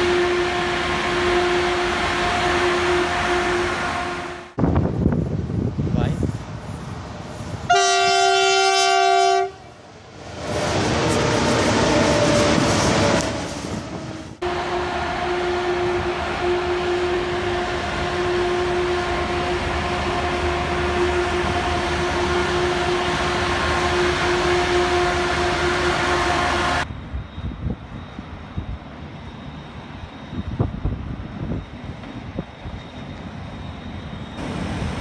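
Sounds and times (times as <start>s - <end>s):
electric locomotive hum and whine: 0.0s - 35.0s.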